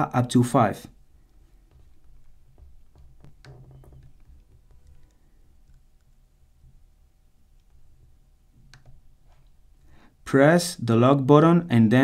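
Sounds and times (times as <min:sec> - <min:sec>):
low steady hum: 0:00.0 - 0:11.7.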